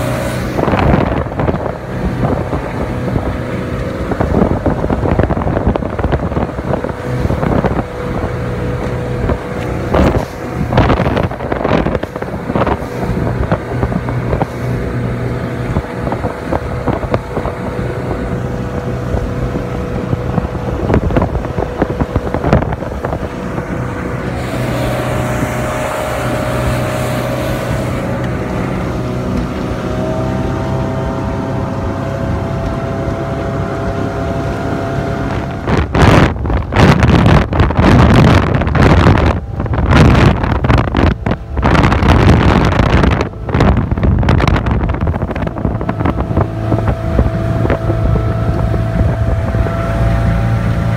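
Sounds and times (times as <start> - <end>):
boat engine droning: 0.0 - 50.9
wind on microphone: 0.0 - 50.9.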